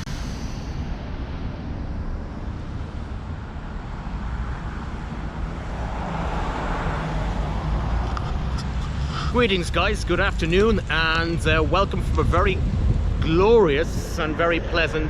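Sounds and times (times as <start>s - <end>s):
street noise: 0.0s - 15.0s
wind buffeting microphone: 0.0s - 15.0s.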